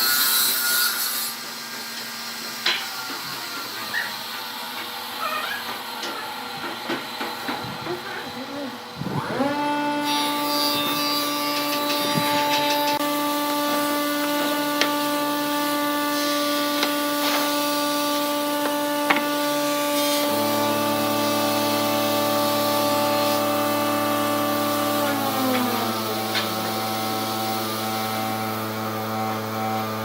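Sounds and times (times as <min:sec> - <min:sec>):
power tool motor running: 0:00.0 - 0:30.0.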